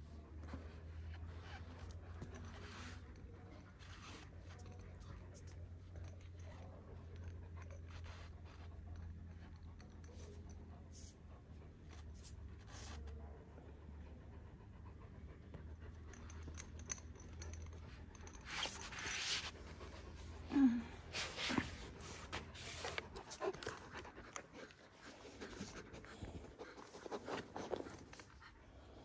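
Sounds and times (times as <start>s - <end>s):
dog panting: 1.6s - 29.0s.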